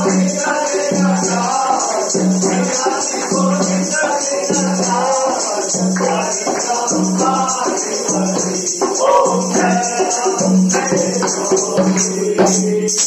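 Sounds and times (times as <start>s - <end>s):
hand drum: 0.0s - 13.0s
jingling metal percussion: 0.0s - 13.0s
voices singing: 0.0s - 13.0s.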